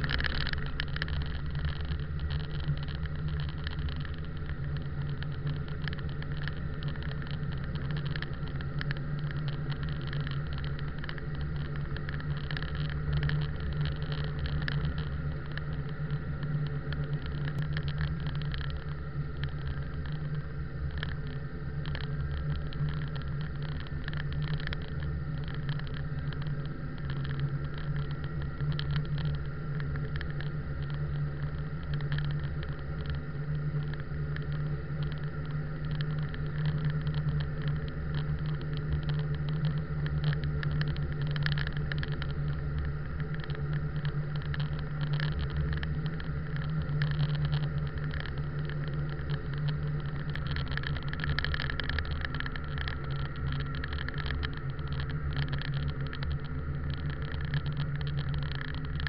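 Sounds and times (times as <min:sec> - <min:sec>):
tyres crackling on snow: 0:00.0 - 0:59.0
vehicle engine drone: 0:00.0 - 0:59.0.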